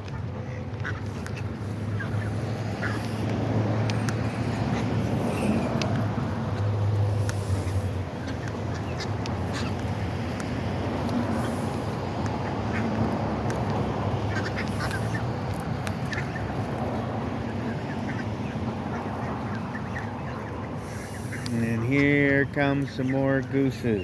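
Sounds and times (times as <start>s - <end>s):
ducks quacking: 0.0s - 24.0s
geese honking: 0.0s - 24.0s.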